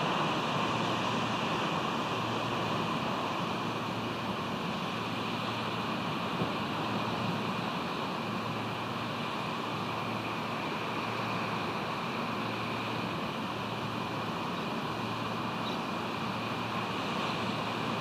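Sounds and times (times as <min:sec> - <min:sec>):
ocean surf: 0:00.0 - 0:18.0.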